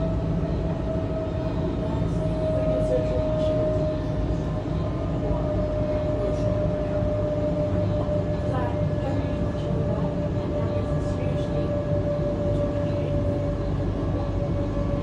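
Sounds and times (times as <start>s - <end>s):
electric train rumbling and whining: 0.0s - 15.0s.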